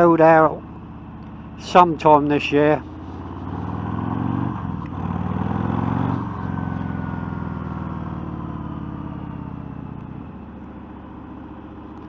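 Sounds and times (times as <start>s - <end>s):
motorcycle engine: 0.0s - 12.0s.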